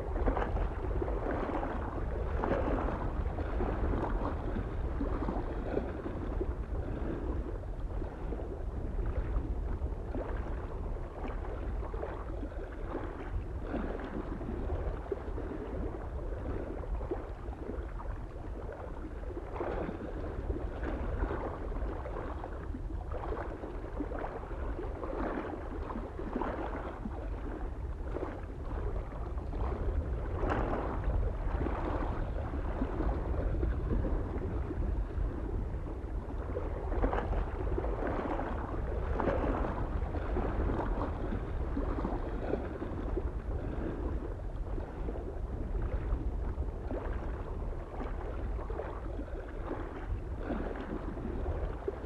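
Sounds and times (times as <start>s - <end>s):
small waves lapping on shore: 0.0s - 52.0s
wind rumble on microphone: 0.0s - 52.0s.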